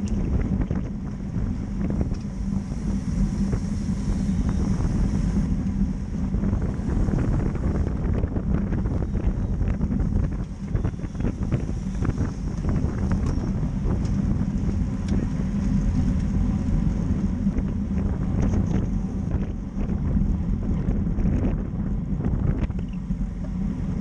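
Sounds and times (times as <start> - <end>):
bike tyres rumbling on pavement: 0.0 - 24.0
wind on microphone: 0.0 - 24.0.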